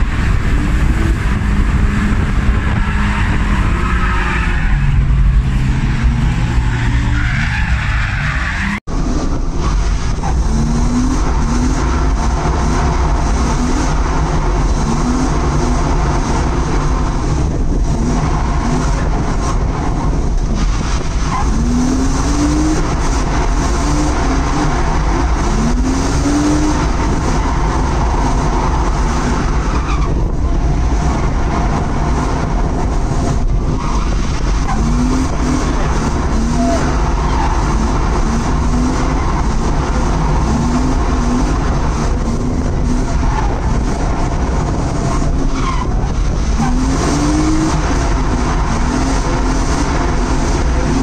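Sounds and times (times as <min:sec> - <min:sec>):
car engine revving high: 0:00.0 - 0:51.0
tyres skidding: 0:00.0 - 0:51.0.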